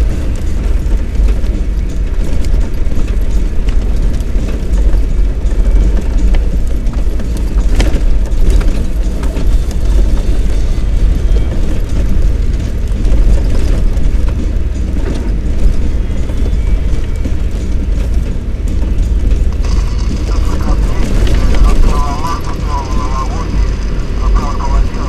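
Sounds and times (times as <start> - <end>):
car engine and tyres rumbling: 0.0 - 25.0
knocks and rattles: 0.0 - 25.0.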